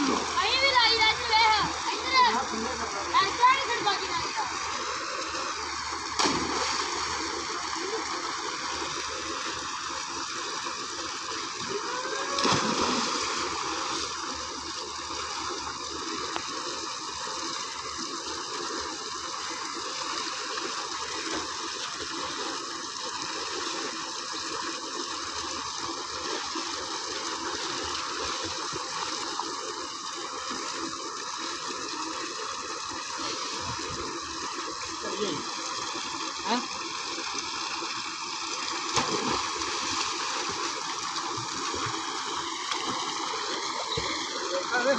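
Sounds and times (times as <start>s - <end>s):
water gushing from pipe: 0.0s - 44.9s.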